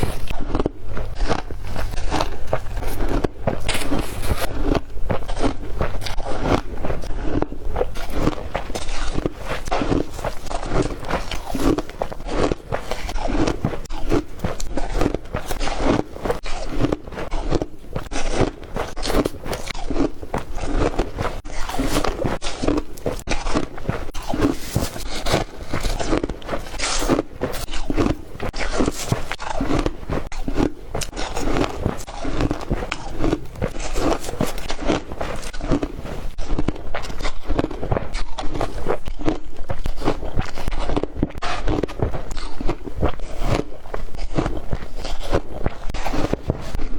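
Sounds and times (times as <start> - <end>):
ice crunching between teeth: 0.0 - 46.9.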